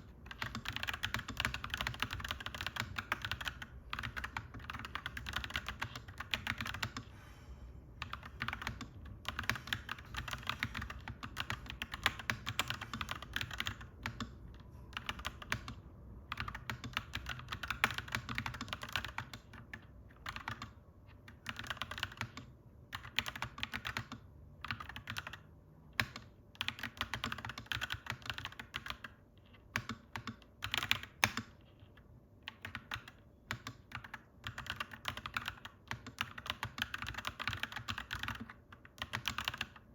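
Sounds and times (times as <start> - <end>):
typing on mechanical keyboard: 0.0 - 7.1, 8.0 - 39.9
low background hum: 0.0 - 39.9.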